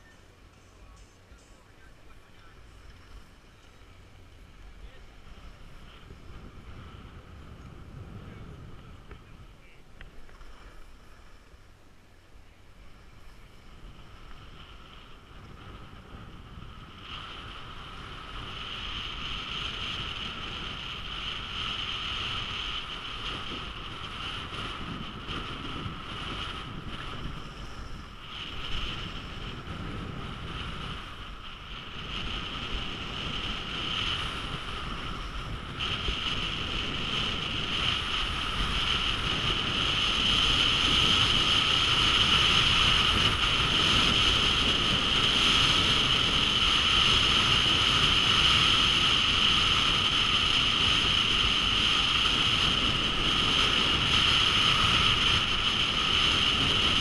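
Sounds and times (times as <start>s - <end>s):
wind rushing over camera: 0.0s - 57.0s.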